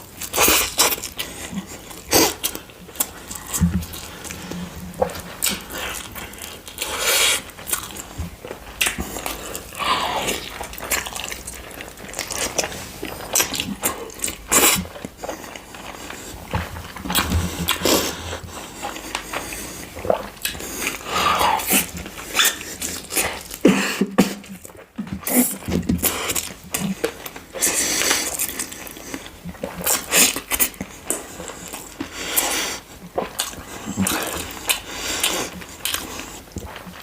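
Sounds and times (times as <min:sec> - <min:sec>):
chewing and crunching: 0:00.0 - 0:37.0
wet mouth sounds: 0:00.2 - 0:37.0.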